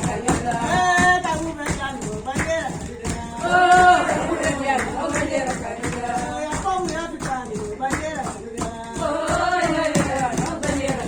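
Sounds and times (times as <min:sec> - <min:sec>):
rhythmic percussion: 0:00.0 - 0:11.0.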